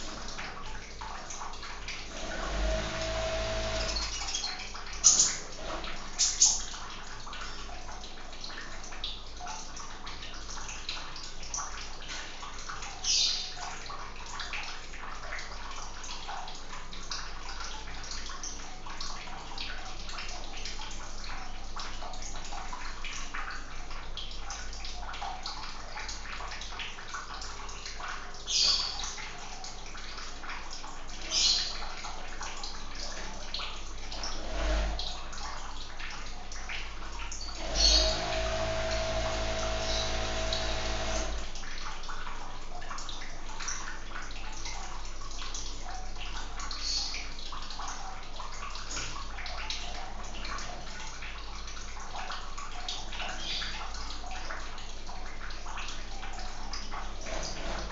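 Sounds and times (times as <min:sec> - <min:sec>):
water running and splashing: 0:00.0 - 0:57.9.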